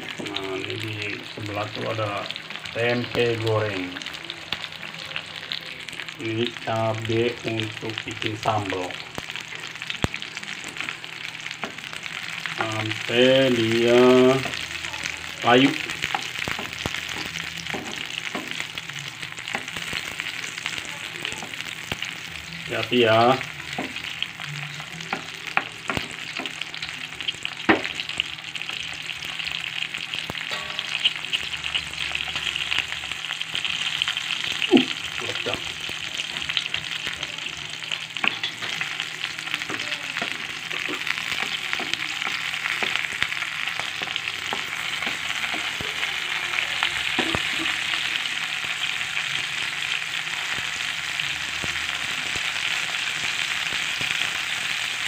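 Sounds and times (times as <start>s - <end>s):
chilies sizzling in oil: 0.0s - 55.0s.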